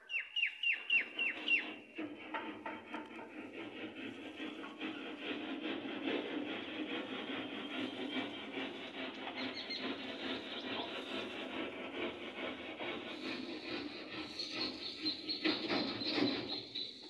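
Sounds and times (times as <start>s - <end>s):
paint roller rubbing on wall: 2.0s - 16.6s.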